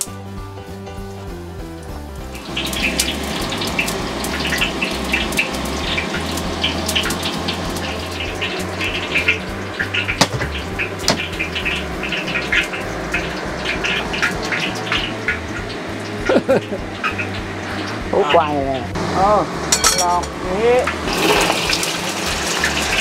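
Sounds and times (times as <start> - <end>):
rain falling steadily: 1.8 - 19.6, 20.3 - 23.0.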